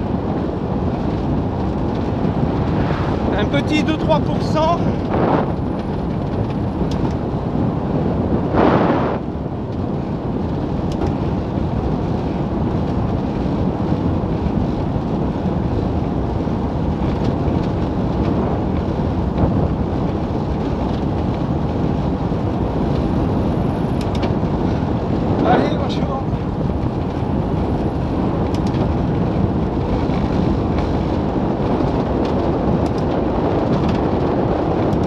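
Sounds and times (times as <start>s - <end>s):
tyre noise on road: 0.0s - 35.0s
wind noise on microphone: 0.0s - 35.0s.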